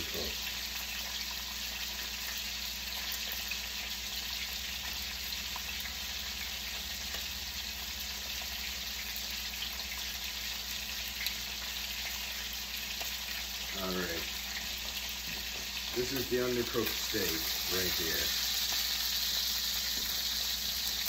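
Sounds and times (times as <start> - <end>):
steaks sizzling in oil: 0.0 - 21.0.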